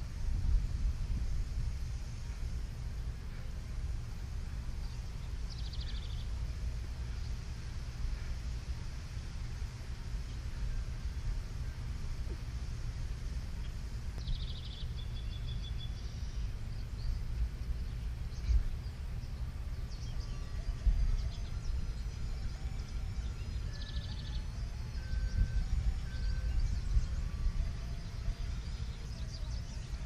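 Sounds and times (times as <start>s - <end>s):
wind rumble on microphone: 0.0s - 30.0s
birds chirping: 1.7s - 30.0s.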